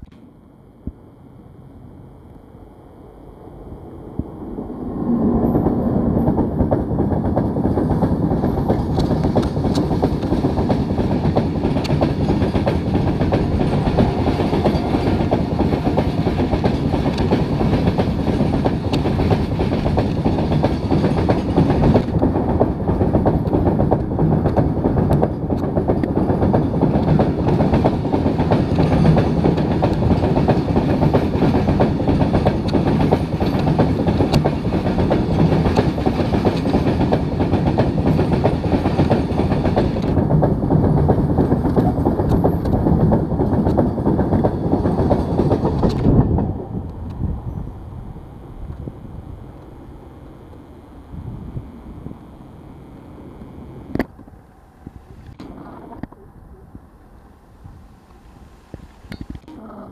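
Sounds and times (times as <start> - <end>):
freight train wheels rumbling: 3.8 - 59.9.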